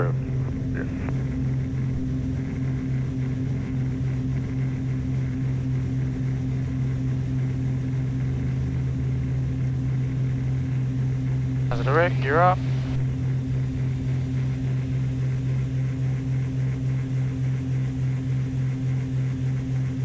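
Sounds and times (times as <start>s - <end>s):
propeller plane engines droning: 0.0s - 20.0s.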